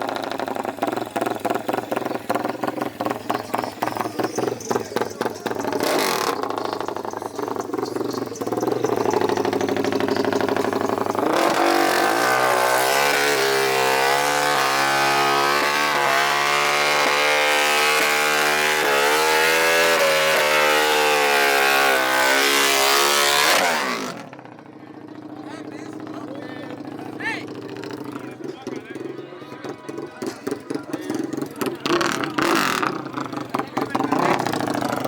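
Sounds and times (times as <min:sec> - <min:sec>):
racing engine at full throttle: 0:00.0 - 0:24.7, 0:25.6 - 0:35.0.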